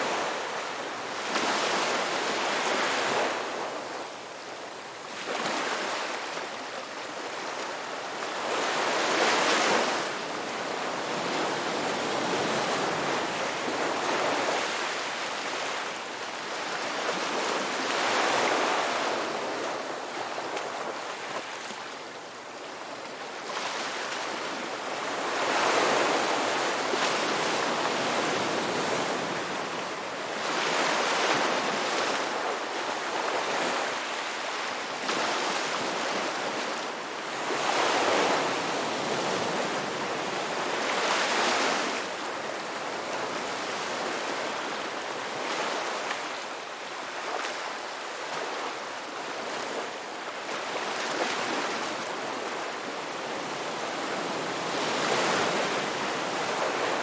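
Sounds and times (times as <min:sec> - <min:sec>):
ocean waves breaking on a beach: 0:00.0 - 0:57.0.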